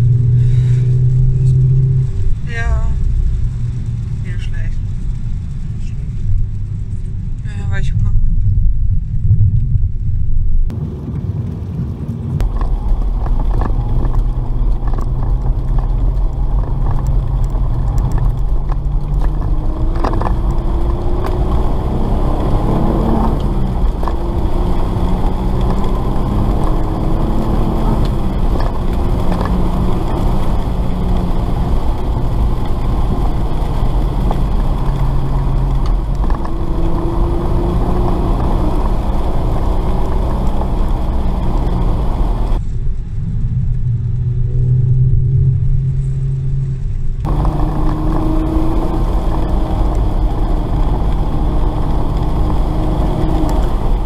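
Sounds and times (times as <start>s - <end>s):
car engine accelerating: 0.0s - 54.0s
tyres rumbling on wet track: 0.0s - 54.0s.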